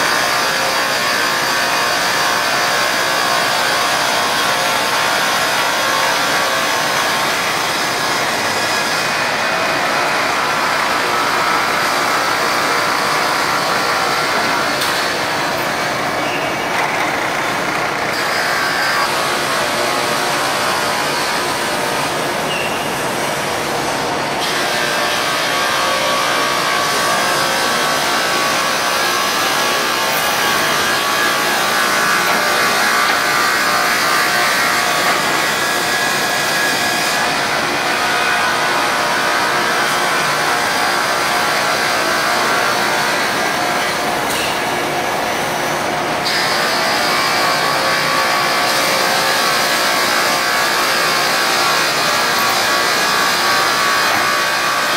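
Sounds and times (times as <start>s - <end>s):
roller conveyors running: 0.0s - 54.9s
sanding machines: 0.0s - 54.9s.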